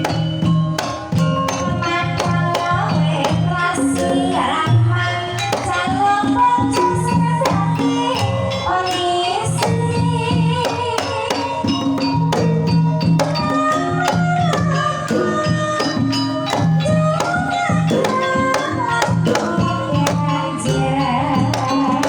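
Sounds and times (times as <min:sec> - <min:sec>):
drum and percussion strikes: 0:00.0 - 0:22.0
metallophone notes: 0:00.0 - 0:22.0
woman singing: 0:01.5 - 0:22.0.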